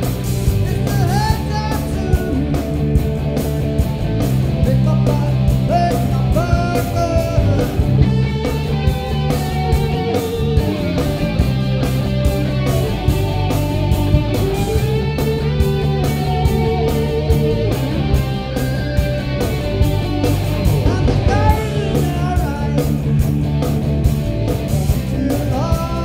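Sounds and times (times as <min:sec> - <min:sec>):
bass guitar: 0:00.0 - 0:26.0
lead guitar with bent notes: 0:00.0 - 0:26.0
overdriven electric guitars: 0:00.0 - 0:26.0
steady drum beat: 0:00.0 - 0:26.0.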